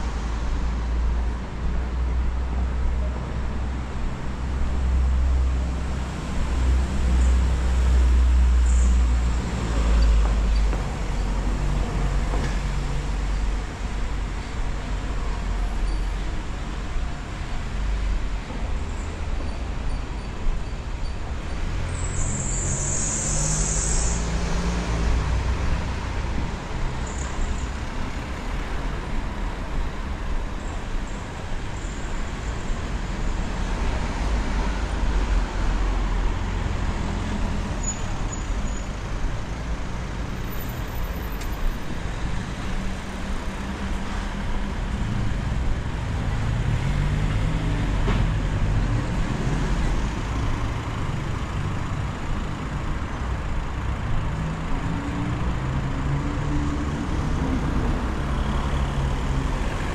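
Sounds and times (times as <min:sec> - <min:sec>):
street traffic rumble: 0:00.0 - 0:59.9.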